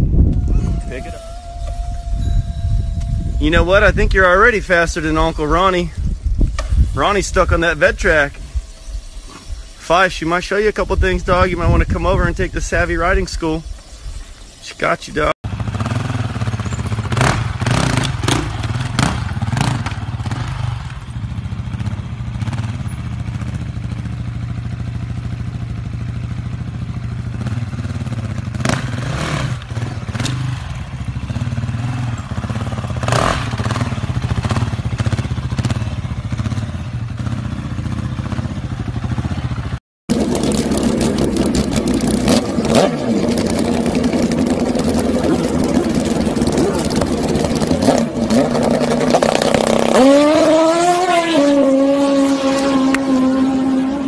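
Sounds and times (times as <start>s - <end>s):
louder motorcycle engine: 0.0s - 5.9s, 7.0s - 10.0s, 15.4s - 54.0s
motorcycle engine at low revs: 0.0s - 14.5s, 15.4s - 54.0s.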